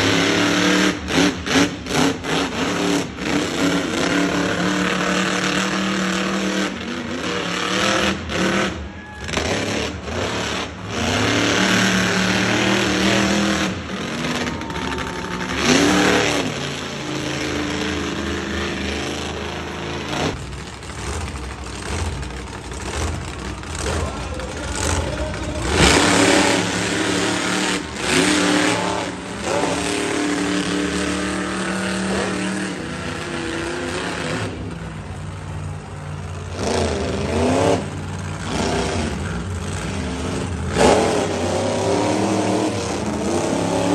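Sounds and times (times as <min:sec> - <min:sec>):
monster truck engines revving: 0:00.0 - 0:43.9.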